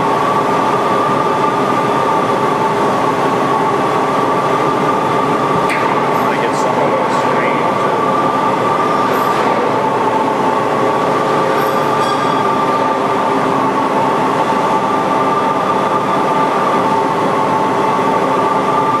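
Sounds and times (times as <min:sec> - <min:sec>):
lathe running with whine: 0:00.0 - 0:19.0.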